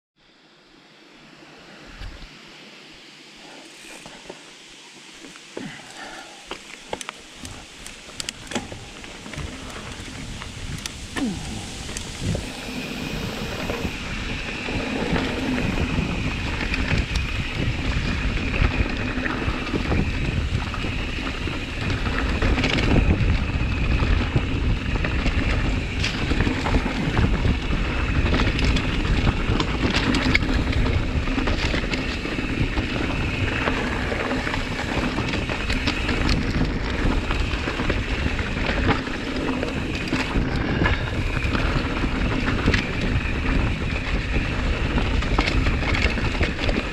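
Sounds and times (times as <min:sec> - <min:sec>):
bike knocking and rattling: 0:05.1 - 0:46.9
wind noise on microphone: 0:07.3 - 0:46.9.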